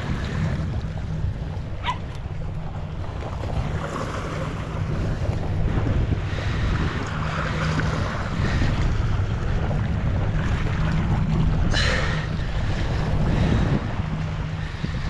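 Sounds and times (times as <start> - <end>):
waves washing against rock: 0.0 - 15.0
wind buffeting microphone: 0.0 - 15.0.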